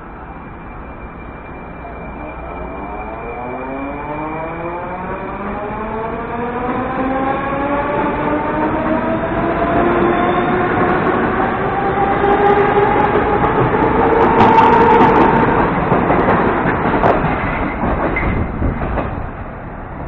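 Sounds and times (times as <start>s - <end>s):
rush of passing train cars: 0.0s - 20.0s.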